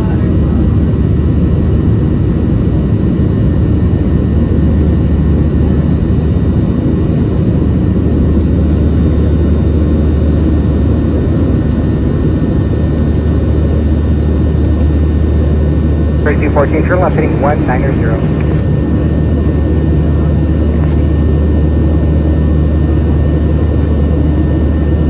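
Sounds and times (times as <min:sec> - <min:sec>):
airplane cabin roar: 0:00.0 - 0:25.0.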